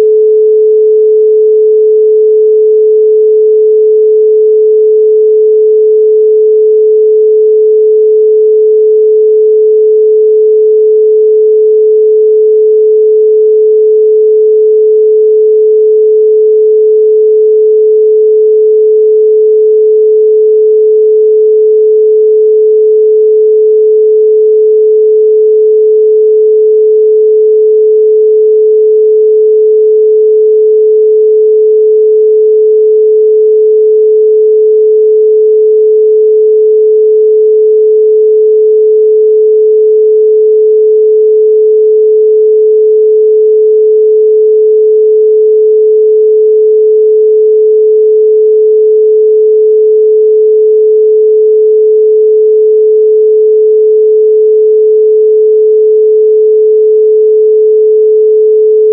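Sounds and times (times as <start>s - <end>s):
pure sine tone: 0.0s - 58.9s.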